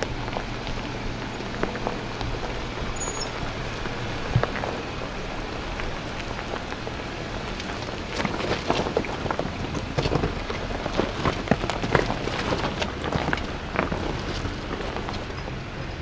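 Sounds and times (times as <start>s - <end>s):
car engine hum: 0.0s - 16.0s
gravel crackling under tyres: 0.0s - 16.0s.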